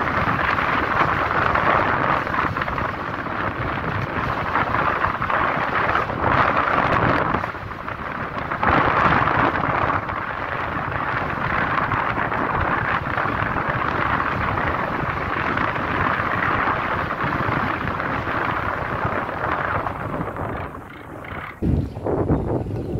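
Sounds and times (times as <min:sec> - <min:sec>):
road noise: 0:00.0 - 0:22.9
wind on microphone: 0:00.0 - 0:22.9.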